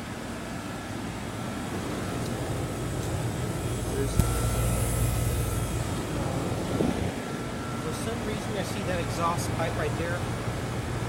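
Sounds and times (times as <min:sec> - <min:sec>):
air conditioner units humming: 0:00.0 - 0:11.0
faint high whine: 0:00.0 - 0:11.0.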